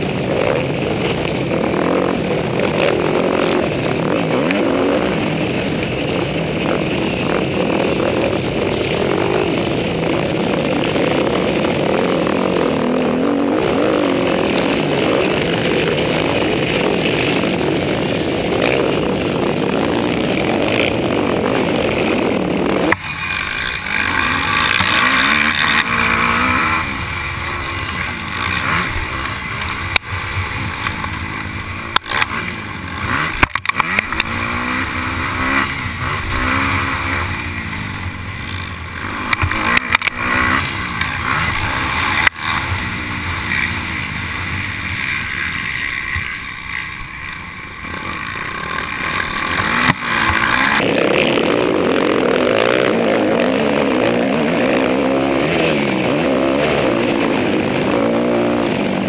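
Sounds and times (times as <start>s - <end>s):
motocross bike engines racing: 0.0s - 59.0s.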